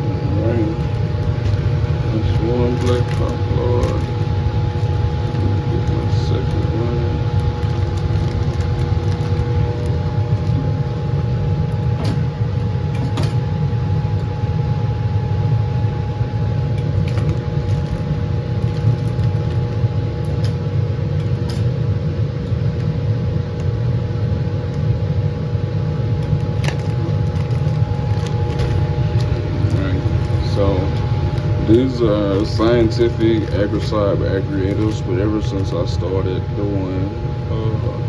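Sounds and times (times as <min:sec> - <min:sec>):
blower low roar: 0:00.0 - 0:38.0
faint hum: 0:00.0 - 0:38.0.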